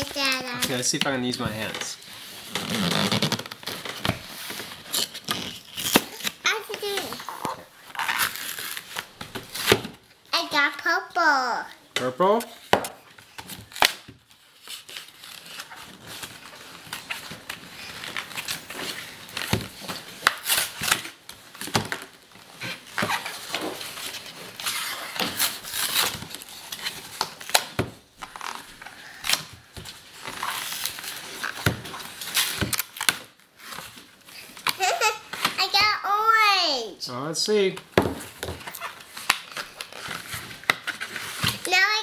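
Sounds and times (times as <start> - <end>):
cardboard crinkling and scraping: 0.0 - 10.1, 12.0 - 36.5, 37.6 - 42.0.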